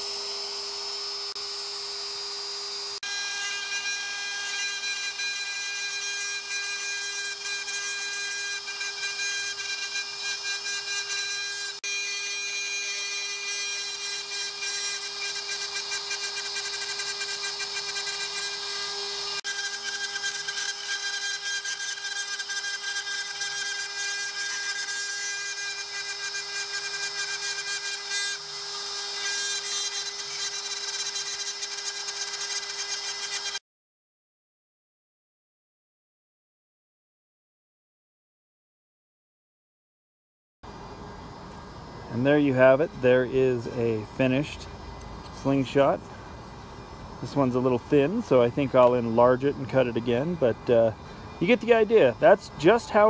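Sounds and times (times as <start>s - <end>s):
router spindle whining: 0.0s - 33.6s, 41.4s - 53.0s.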